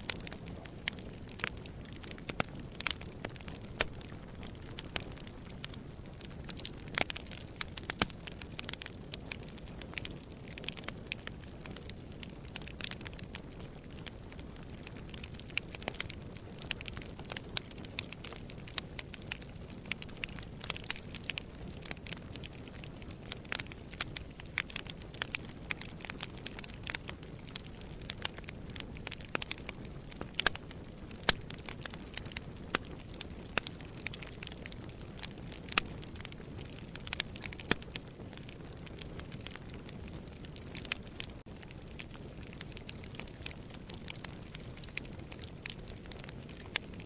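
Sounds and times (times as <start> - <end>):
wood fire crackling and popping: 0.0 - 47.0.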